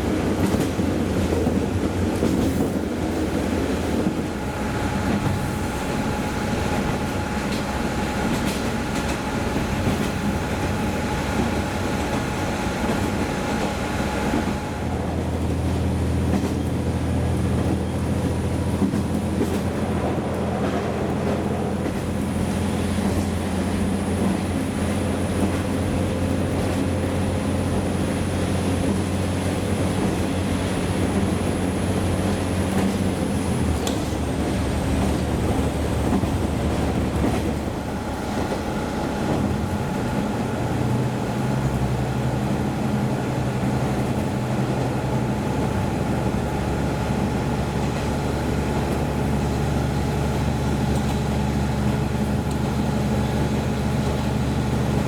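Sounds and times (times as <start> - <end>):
train running on rails: 0.0 - 55.0.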